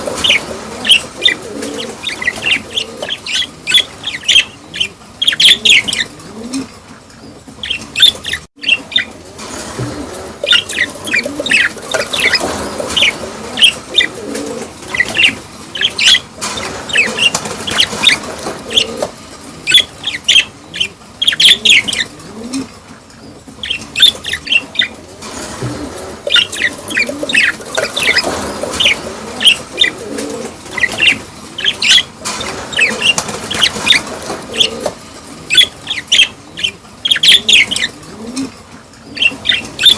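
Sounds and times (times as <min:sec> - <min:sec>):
small cage birds chirping: 0:00.0 - 0:39.9.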